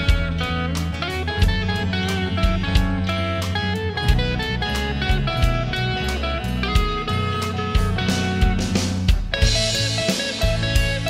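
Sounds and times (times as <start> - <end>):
band backing with regular beat: 0.0 - 11.0
electric blues guitar melody: 0.0 - 11.0.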